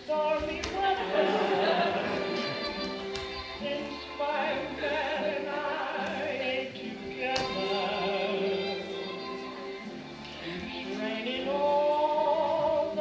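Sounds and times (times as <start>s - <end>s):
sustained accompaniment: 0.0s - 12.6s.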